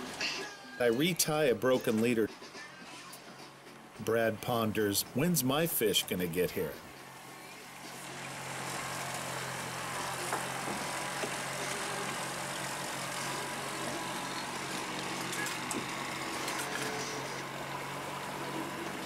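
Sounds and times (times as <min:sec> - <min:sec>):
boat engine humming: 0:03.2 - 0:19.0.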